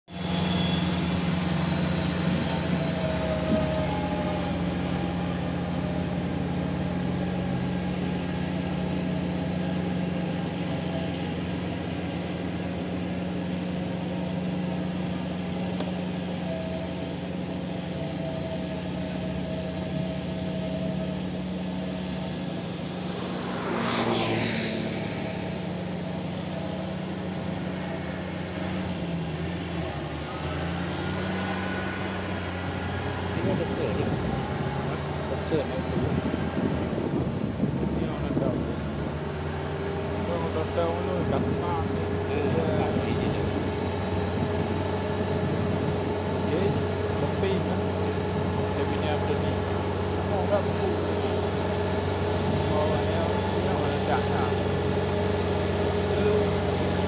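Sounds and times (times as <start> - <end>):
tractor engines running: 0.0 - 57.0
rotary tillers churning water: 0.1 - 57.0.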